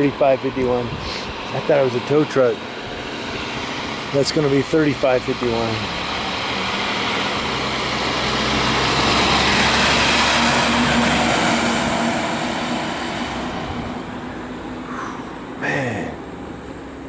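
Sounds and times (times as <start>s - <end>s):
fire engine driving past: 0.0s - 17.0s.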